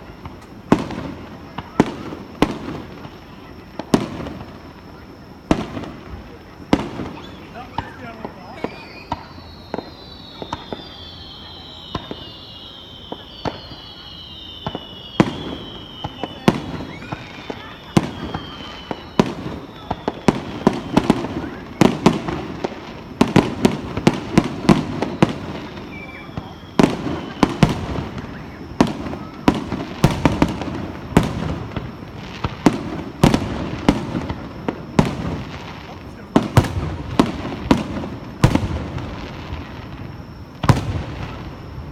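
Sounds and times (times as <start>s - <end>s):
fireworks bangs and pops: 0.0s - 41.9s
falling whistling tones: 7.0s - 41.9s.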